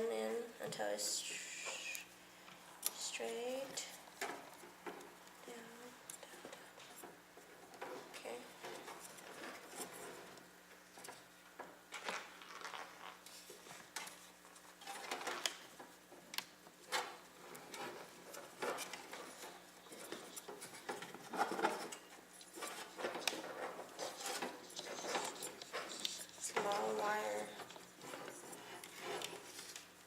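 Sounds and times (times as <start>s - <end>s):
cables rustling and scraping: 0.6s - 30.0s.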